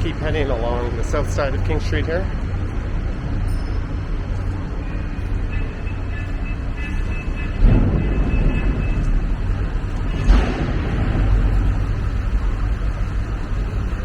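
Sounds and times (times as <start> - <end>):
street traffic: 0.0 - 14.0
streetcar rumbling by: 0.0 - 14.0.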